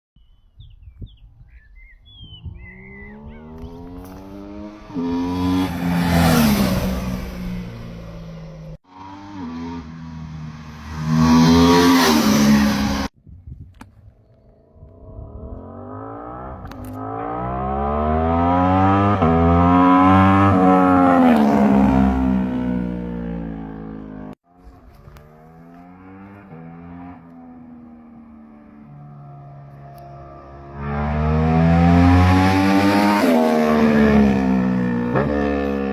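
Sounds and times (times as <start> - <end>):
motorcycle accelerating past: 2.5 - 13.1, 15.0 - 35.9.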